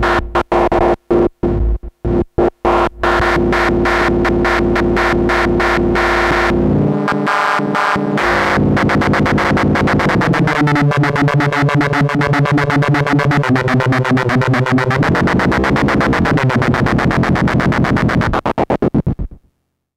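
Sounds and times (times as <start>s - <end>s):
buzzy synthesizer tone: 2.7s - 19.1s.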